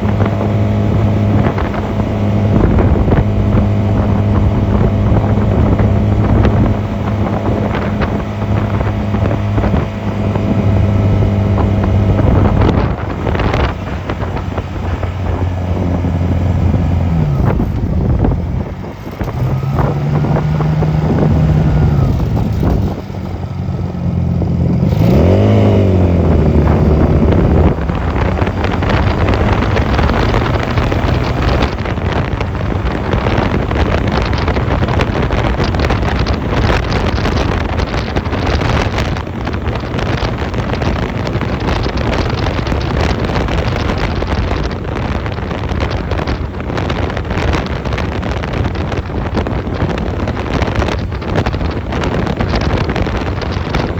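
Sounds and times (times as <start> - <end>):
motorcycle engine revving: 0.0 - 53.9
wind rushing over microphone: 0.0 - 53.9.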